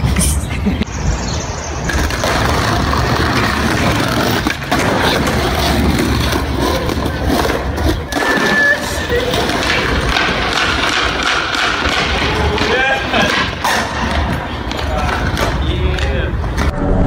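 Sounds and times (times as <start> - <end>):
skateboard wheels rolling on pavement: 0.8 - 16.7
skateboard grinding on curb: 1.8 - 15.8.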